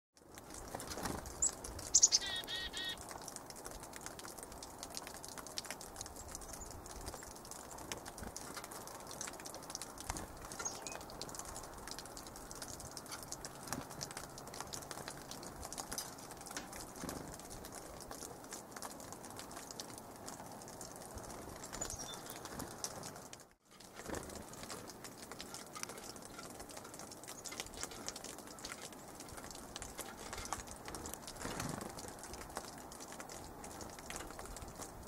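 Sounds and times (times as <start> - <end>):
wing flutters: 0.3 - 34.9.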